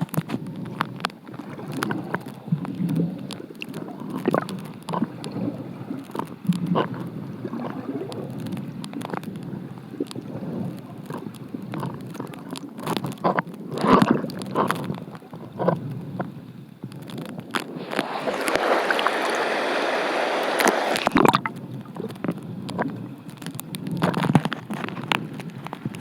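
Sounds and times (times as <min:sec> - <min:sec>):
underwater pops and clicks: 0:00.0 - 0:16.0, 0:16.8 - 0:26.0
underwater stream rush: 0:00.0 - 0:26.0.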